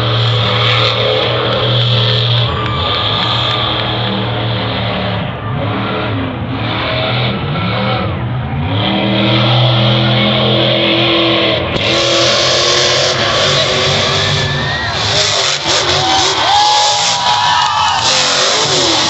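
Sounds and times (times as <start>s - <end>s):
loud rushing noise: 0.0s - 19.0s
monster truck engine revving: 0.0s - 19.0s.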